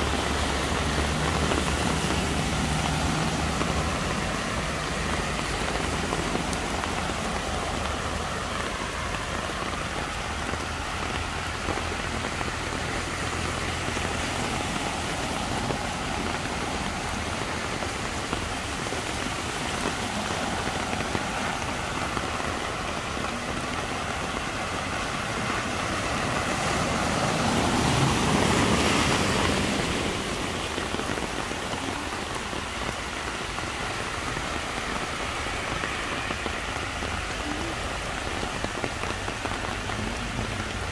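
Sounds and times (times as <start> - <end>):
cars wading through water: 0.0 - 40.9
heavy rain hissing: 0.0 - 40.9
tyres swishing through water: 0.0 - 40.9.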